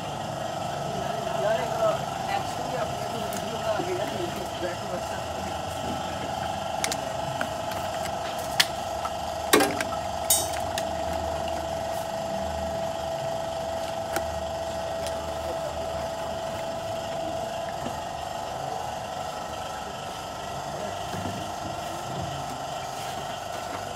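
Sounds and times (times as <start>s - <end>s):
steady high hum: 0.0s - 23.9s.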